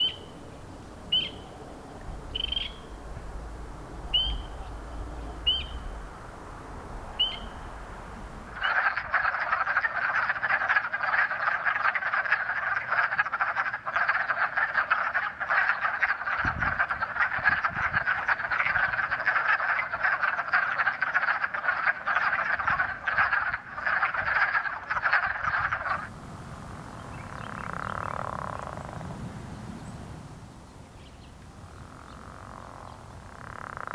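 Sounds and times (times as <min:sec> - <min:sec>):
frogs calling: 0:00.0 - 0:33.9.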